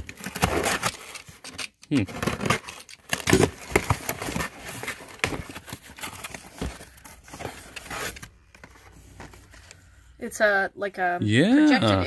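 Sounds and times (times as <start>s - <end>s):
cardboard and packaging handled: 0.0s - 10.0s.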